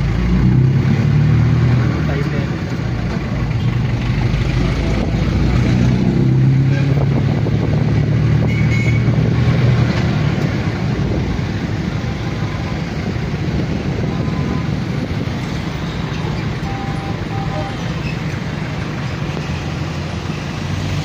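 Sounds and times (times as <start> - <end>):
street noise: 0.0 - 21.0.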